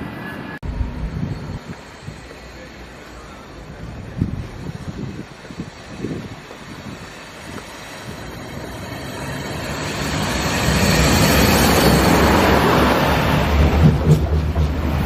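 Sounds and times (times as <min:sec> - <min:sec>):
rush of wheels on rail: 0:00.0 - 0:15.0.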